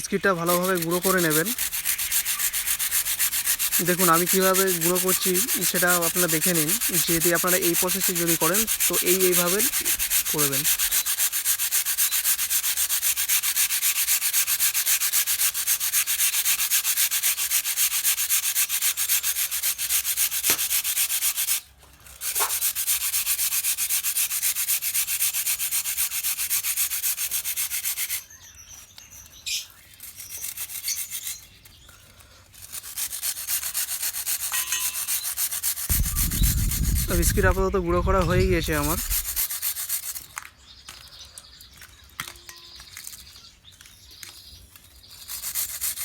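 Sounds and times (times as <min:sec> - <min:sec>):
biscuits being ground: 0:00.0 - 0:46.0.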